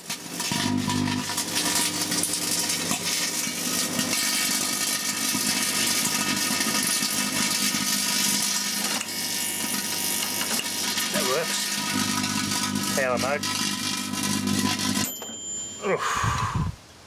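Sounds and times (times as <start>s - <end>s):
microwave electrical hum: 0.0s - 15.7s.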